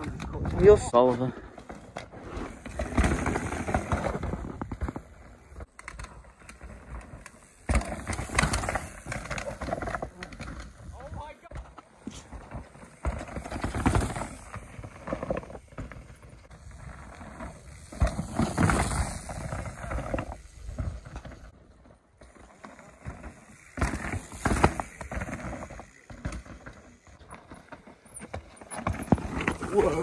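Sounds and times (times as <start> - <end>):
mountain bikes rattling past: 0.0 - 30.0.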